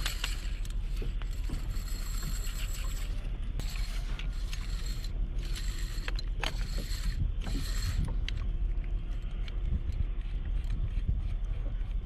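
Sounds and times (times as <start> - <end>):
mechanical whirring: 0.0 - 12.0
wind and water rumble: 0.0 - 12.0.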